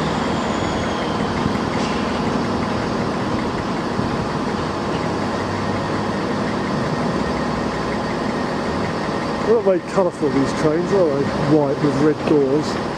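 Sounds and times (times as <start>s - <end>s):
diesel train engine idling: 0.0s - 12.9s.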